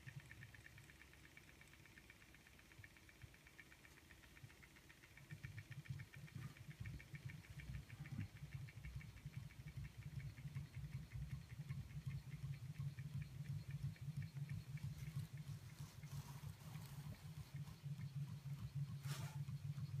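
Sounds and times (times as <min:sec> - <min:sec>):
small engine mechanism ticking: 0:00.0 - 0:20.0.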